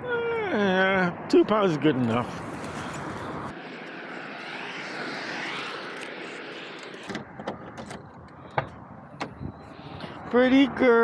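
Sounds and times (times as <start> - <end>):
rushing noise with sweeping tone: 1.1 - 11.0.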